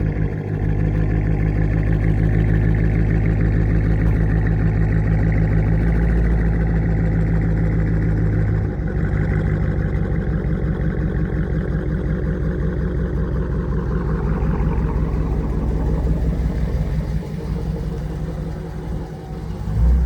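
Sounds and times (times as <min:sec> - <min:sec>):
low engine note inside car: 0:00.0 - 0:20.0.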